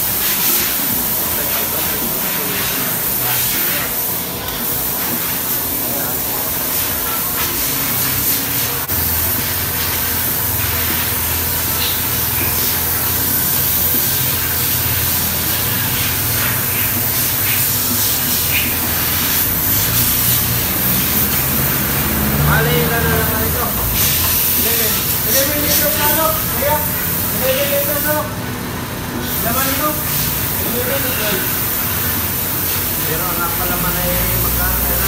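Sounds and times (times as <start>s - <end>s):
constant hiss: 0.0s - 35.0s.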